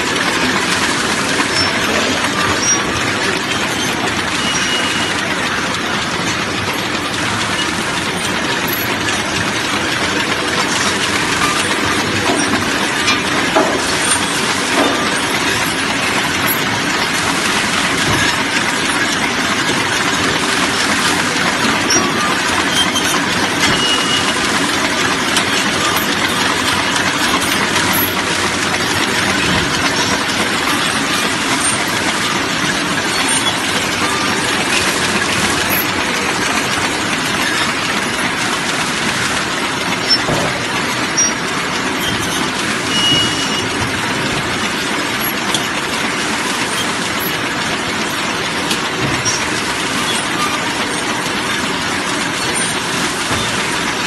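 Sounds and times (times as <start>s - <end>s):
high machine squeak: 0.0s - 54.0s
packaging machine running: 0.0s - 54.0s.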